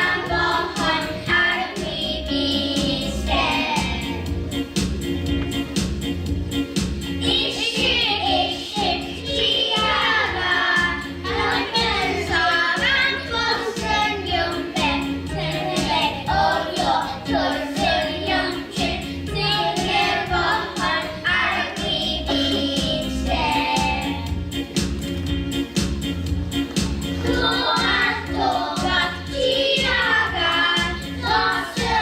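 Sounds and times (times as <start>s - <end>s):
children singing together: 0.0s - 4.2s, 7.2s - 24.4s, 27.2s - 32.0s
instrumental accompaniment with beat: 0.0s - 32.0s.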